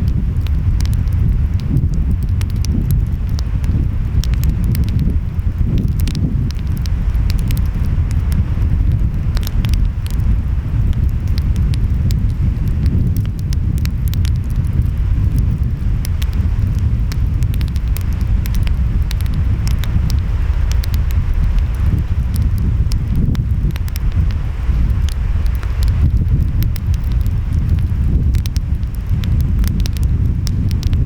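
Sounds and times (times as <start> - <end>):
wind: 0.0 - 31.0
wood fire crackling and popping: 0.0 - 31.0.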